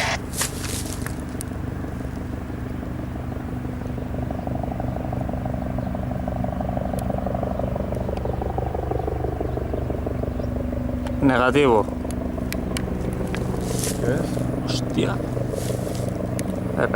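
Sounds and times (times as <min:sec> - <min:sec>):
helicopter engine and turbine tone: 0:00.0 - 0:16.9
helicopter rotor chopping: 0:00.0 - 0:16.9.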